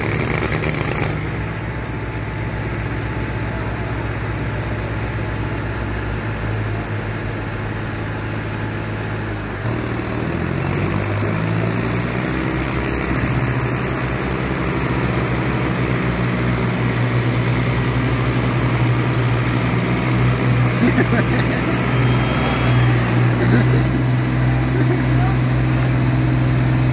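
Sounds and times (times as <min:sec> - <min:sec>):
tractor diesel engines under load: 0:00.0 - 0:26.9.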